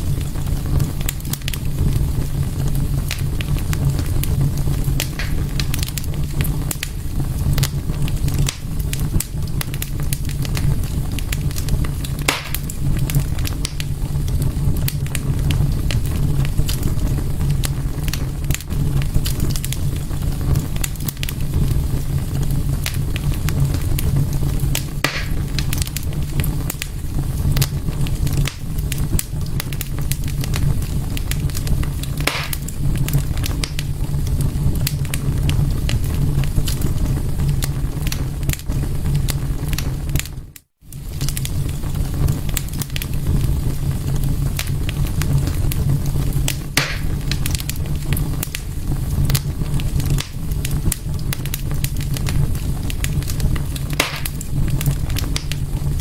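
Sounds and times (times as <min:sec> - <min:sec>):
fire crackling: 0:00.0 - 0:56.0
fire low rumble: 0:00.0 - 0:56.0
fire popping: 0:00.0 - 0:56.0.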